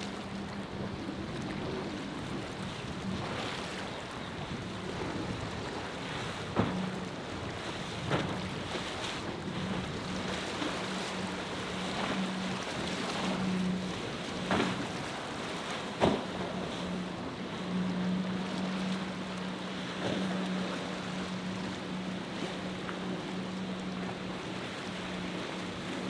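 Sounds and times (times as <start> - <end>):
boat through rough water: 0.0 - 26.0
outboard motor droning: 0.0 - 26.0.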